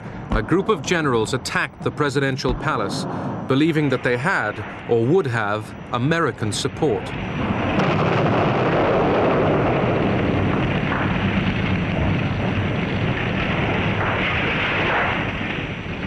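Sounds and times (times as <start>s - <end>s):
rumble of explosions and fire: 0.0s - 16.0s.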